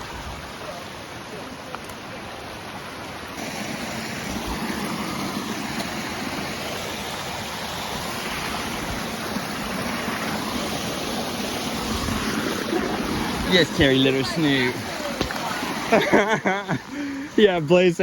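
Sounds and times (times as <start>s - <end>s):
creek and waterfall rushing: 0.0s - 18.0s.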